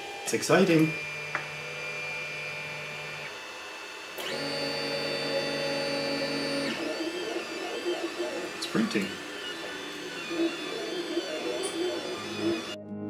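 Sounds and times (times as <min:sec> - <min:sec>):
stepper motors whining: 0:00.0 - 0:12.8.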